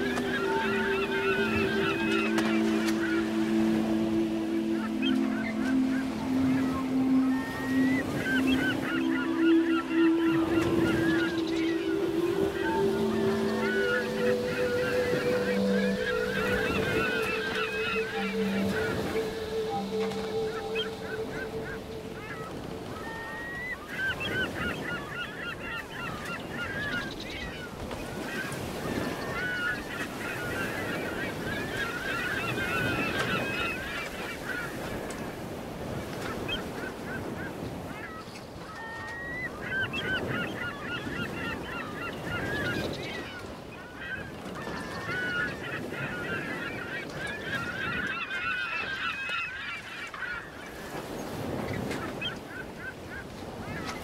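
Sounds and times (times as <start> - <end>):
flock of birds calling: 0.0 - 54.0.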